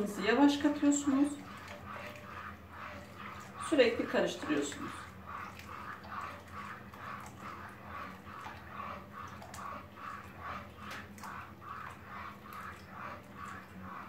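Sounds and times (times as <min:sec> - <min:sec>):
spoon stirring milk in pot: 0:00.0 - 0:14.0
steady low hum: 0:00.0 - 0:14.0.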